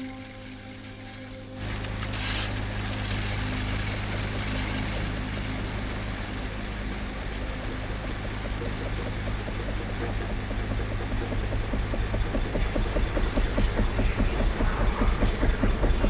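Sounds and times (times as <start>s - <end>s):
lawn mower engine running: 0.0s - 16.0s
rapid ticking: 0.0s - 16.0s.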